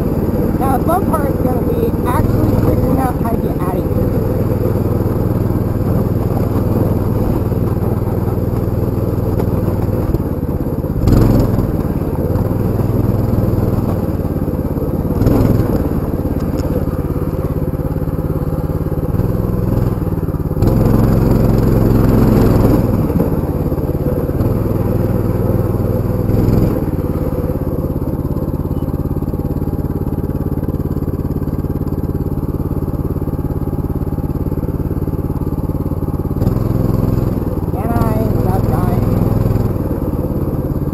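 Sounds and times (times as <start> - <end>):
off-road motorbike engine: 0.0 - 40.9.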